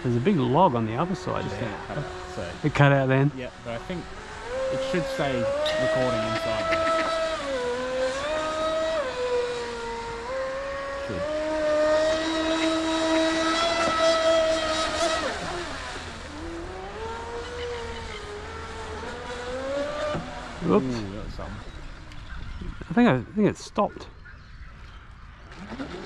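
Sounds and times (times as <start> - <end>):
rc boat electric motor whining: 0.0 - 23.0, 24.4 - 26.0.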